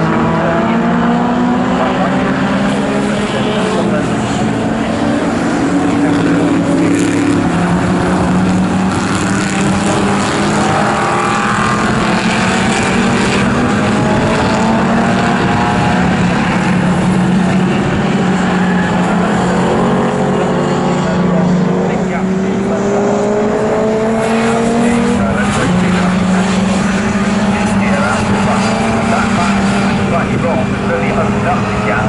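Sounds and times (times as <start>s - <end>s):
racing car engines running hard: 0.0s - 32.0s.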